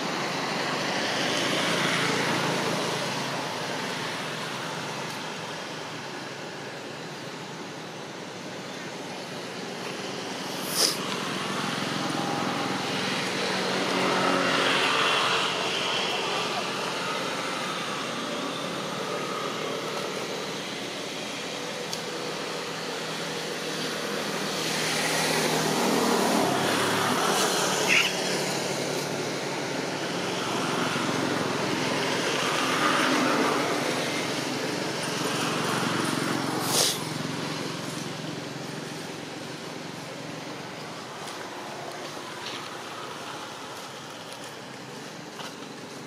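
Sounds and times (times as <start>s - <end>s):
vehicle engines passing: 0.0s - 46.0s.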